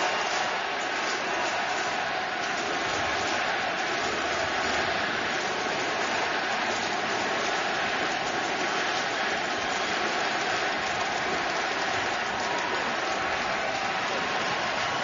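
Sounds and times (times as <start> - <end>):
crowd voices din: 0.0 - 15.0.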